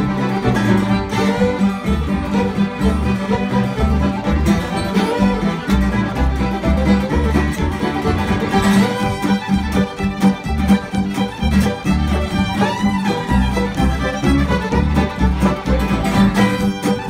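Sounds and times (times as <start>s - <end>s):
banjo playing: 0.0s - 17.0s
fiddles playing melody: 0.0s - 17.0s
upright bass plucking: 0.0s - 17.0s.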